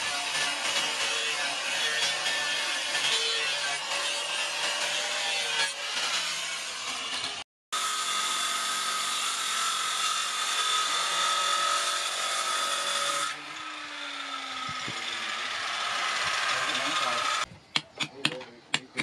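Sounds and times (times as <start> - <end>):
angle grinder grinding steel: 0.0 - 17.5.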